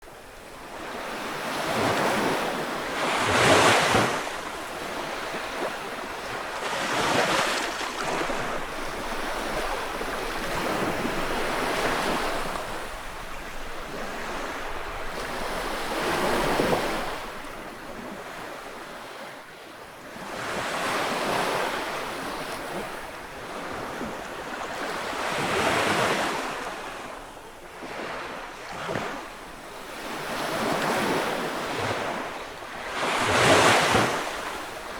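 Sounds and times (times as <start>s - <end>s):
waves breaking on beach: 0.0s - 34.9s.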